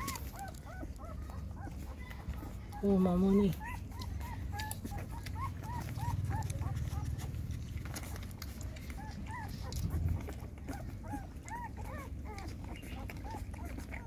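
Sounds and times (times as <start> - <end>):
low background rumble: 0.0 - 14.0
puppies squeaking and whimpering: 0.0 - 14.0.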